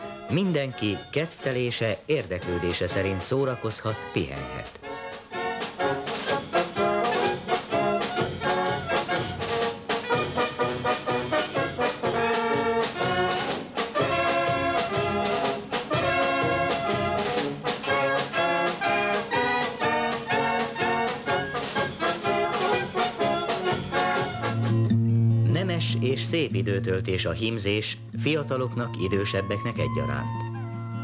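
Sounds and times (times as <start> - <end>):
wind band playing brisk tune: 2.3 - 24.9, 28.2 - 31.0.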